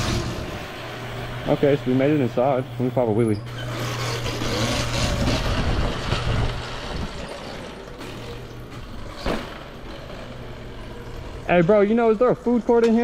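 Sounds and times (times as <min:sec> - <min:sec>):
electric motor hum: 0:00.0 - 0:13.0.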